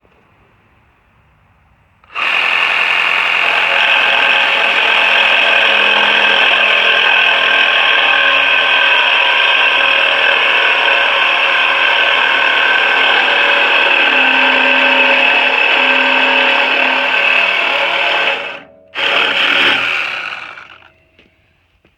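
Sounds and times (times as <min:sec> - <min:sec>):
power tool motor whining: 0:02.0 - 0:21.0.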